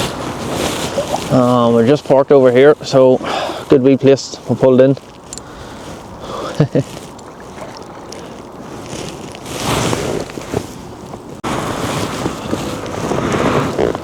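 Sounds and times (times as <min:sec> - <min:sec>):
river water: 0:00.0 - 0:14.0
wind buffeting microphone: 0:00.0 - 0:14.0.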